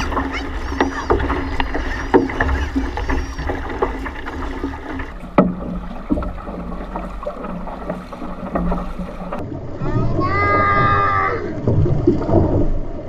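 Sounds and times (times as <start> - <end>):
paddles splashing and knocking: 0.0 - 13.0
water rushing along hull: 0.0 - 13.0.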